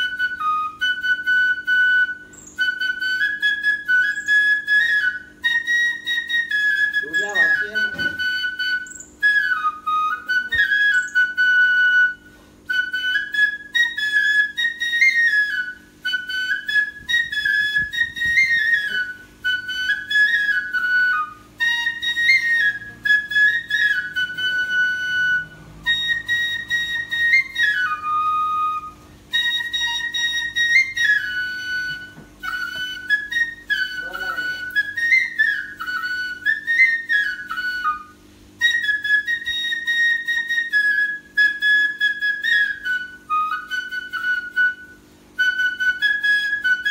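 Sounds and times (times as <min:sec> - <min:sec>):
solo flute melody: 0:00.0 - 0:46.9.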